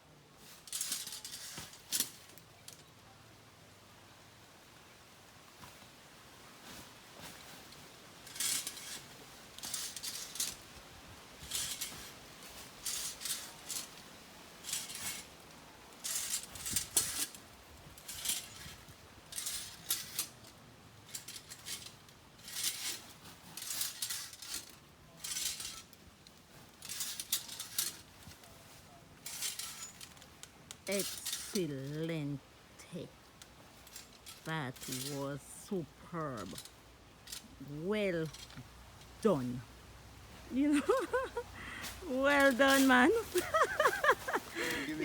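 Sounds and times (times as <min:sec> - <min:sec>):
metal climber scraping palm trunk: 0:00.5 - 0:02.8, 0:06.7 - 0:32.4, 0:33.3 - 0:45.0.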